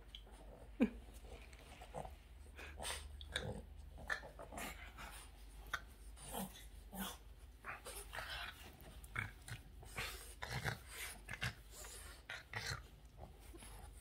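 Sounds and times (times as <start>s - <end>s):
dog snorting and huffing: 1.8s - 14.0s.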